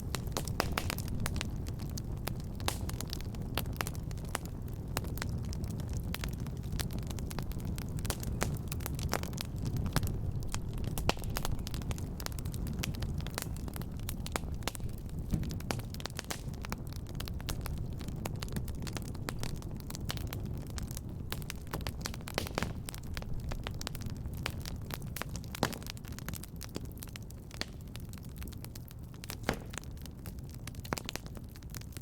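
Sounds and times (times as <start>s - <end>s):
fireplace fire crackling: 0.0s - 32.0s.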